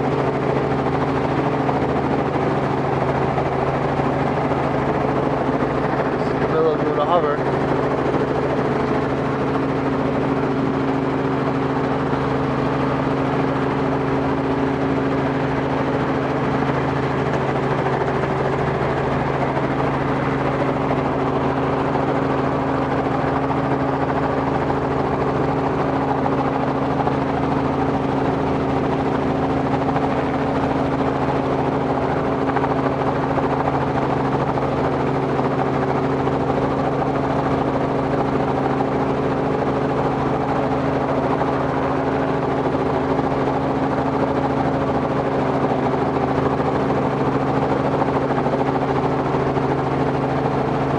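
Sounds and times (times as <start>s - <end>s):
helicopter engine and rotor drone: 0.0s - 50.9s.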